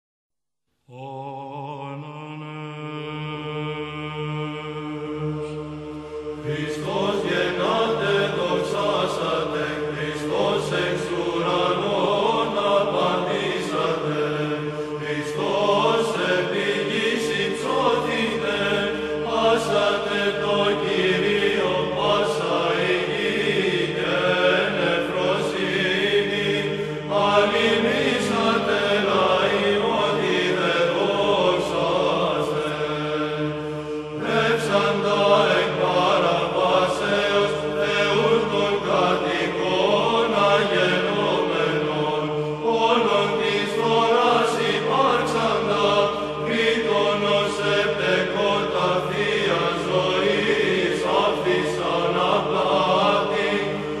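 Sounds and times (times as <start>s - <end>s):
choir chanting melody: 0.9s - 54.0s.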